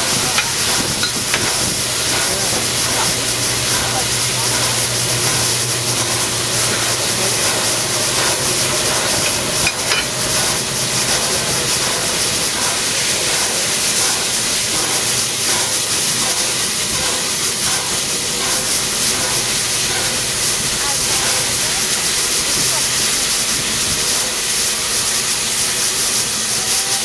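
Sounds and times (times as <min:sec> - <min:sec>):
steam locomotive hissing: 0:00.0 - 0:27.0.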